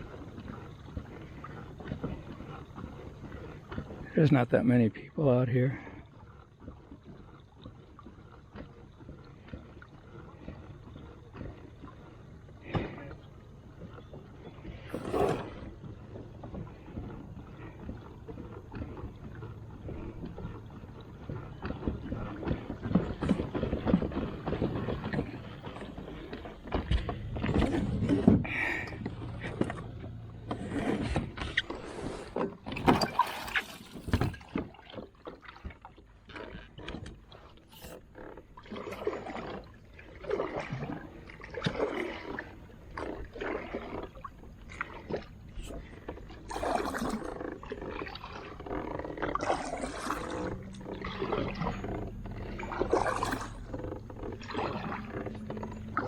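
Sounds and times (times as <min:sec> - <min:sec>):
boat knocks and rustles: 0:00.0 - 0:56.0
water lapping against kayak hull: 0:00.0 - 0:56.0.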